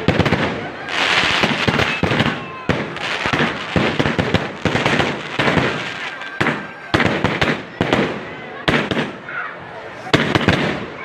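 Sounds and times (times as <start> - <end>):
fireworks banging and crackling: 0.0 - 9.3, 9.9 - 11.0.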